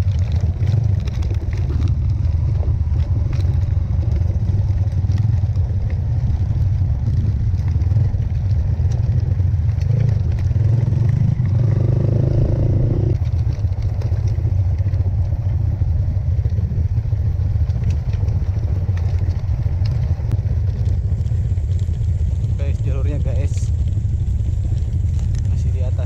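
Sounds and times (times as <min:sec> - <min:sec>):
motorcycle engine rumbling: 0:00.0 - 0:26.0.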